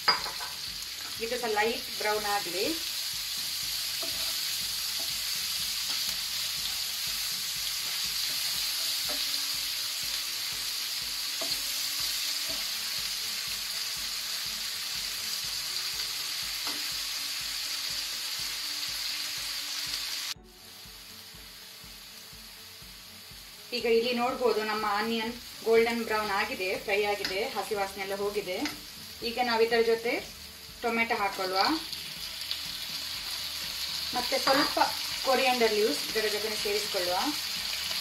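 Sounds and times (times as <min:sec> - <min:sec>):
onions sizzling in a frying pan: 0:00.0 - 0:38.0.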